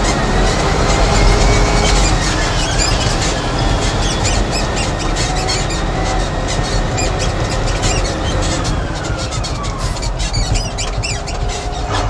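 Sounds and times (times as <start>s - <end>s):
diesel engine rumble: 0.0s - 12.0s
rattles and clicks in cab: 0.0s - 12.0s
road noise: 0.0s - 12.0s.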